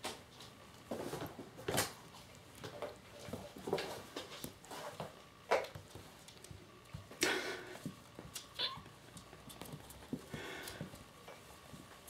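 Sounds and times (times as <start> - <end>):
kittens scuffling on wooden floor: 0.0 - 12.0.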